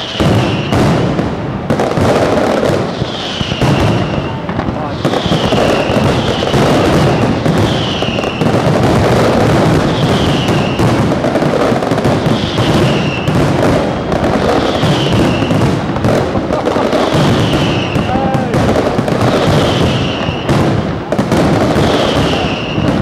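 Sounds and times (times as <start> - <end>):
falling firework whistle: 0.0 - 23.0
fireworks bangs and crackling: 0.0 - 23.0.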